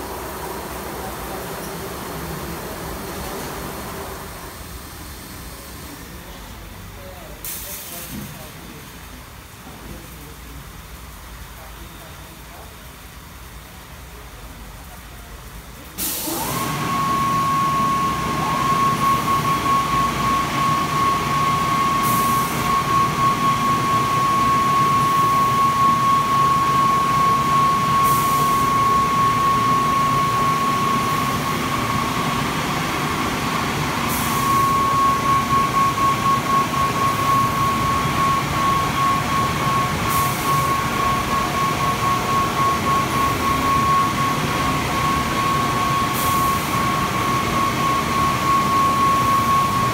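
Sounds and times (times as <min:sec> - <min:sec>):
car wash motors whining: 0:00.0 - 0:49.9.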